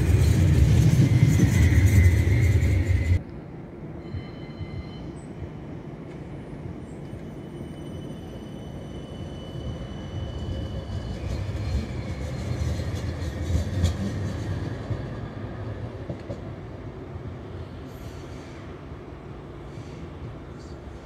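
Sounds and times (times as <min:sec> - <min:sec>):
tram wheels rumbling on rail: 0:00.0 - 0:21.0.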